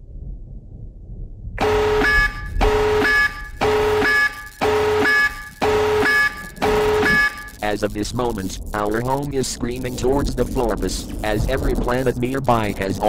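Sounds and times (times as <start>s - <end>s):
low rumble: 0.0s - 13.0s
electronic alert tone beeping: 1.6s - 13.0s.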